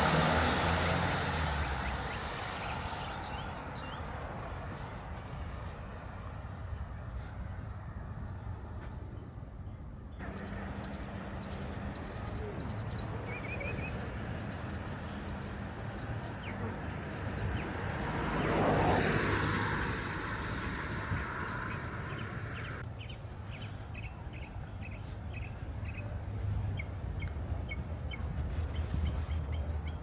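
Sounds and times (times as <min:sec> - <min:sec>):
small birds chirping: 0:01.1 - 0:07.8, 0:08.4 - 0:26.2.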